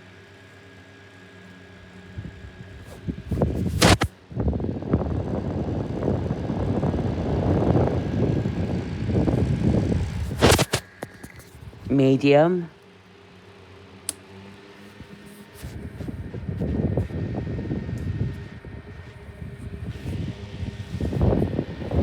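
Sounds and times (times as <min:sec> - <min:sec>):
fan motor hum: 0:01.6 - 0:22.0.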